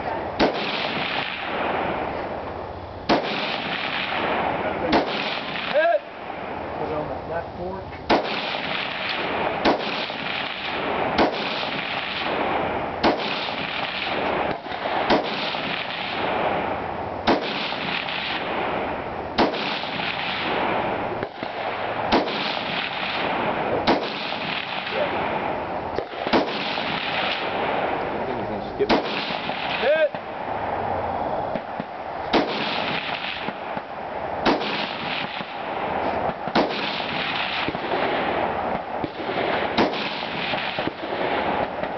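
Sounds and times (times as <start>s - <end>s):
rifle shots echoing: 0.0s - 7.2s, 8.0s - 41.9s.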